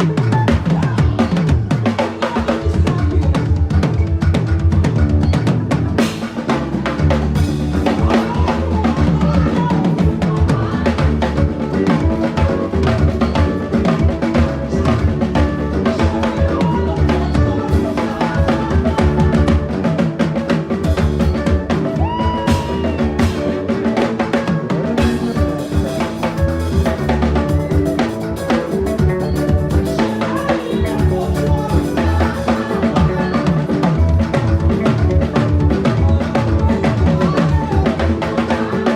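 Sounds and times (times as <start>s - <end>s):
fast drumming: 0.0s - 38.9s.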